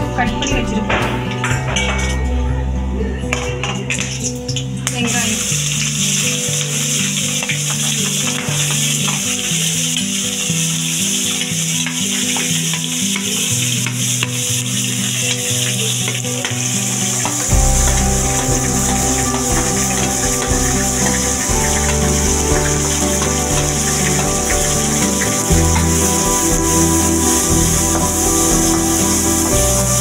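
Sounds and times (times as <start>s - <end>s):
onions sizzling in hot oil: 4.2s - 30.0s.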